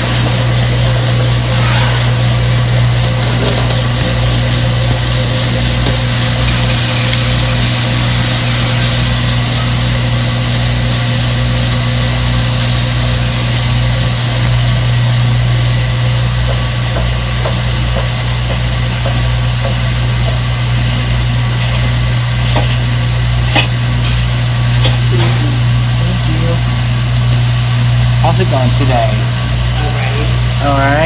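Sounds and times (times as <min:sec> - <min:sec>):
washing machine hum: 0:00.0 - 0:31.0.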